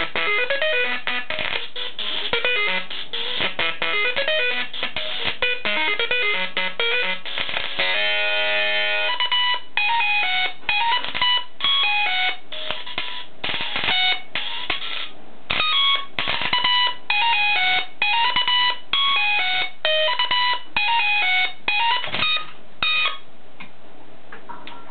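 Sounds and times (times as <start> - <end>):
plasma speaker beeping melody: 0.0 - 23.2.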